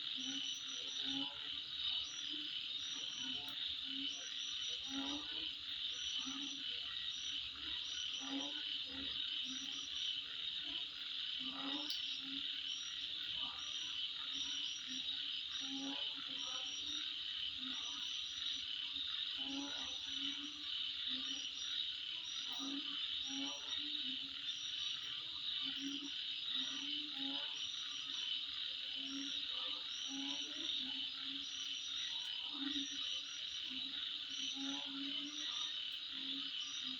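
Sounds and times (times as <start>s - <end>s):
lower pulsed insect calls: 0.0s - 36.9s
high-pitched insect buzz: 0.2s - 10.1s, 11.4s - 18.6s, 19.4s - 28.3s, 29.0s - 36.9s.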